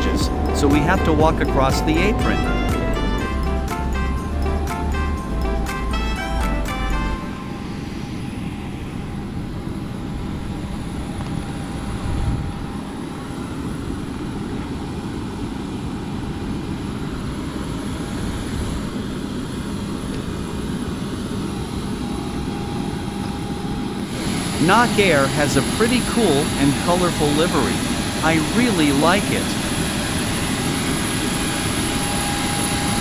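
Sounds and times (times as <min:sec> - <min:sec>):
jet aircraft whine and rumble: 0:00.0 - 0:03.9, 0:07.2 - 0:33.0.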